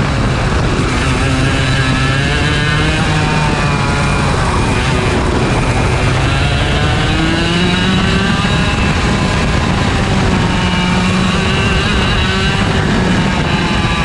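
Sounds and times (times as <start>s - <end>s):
kart engine revving: 0.0s - 14.0s.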